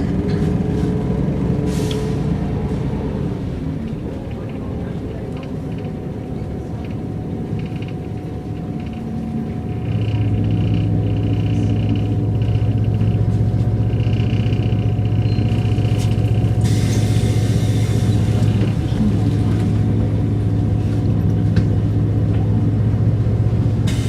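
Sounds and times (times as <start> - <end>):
bus diesel engine droning: 0.0 - 24.0.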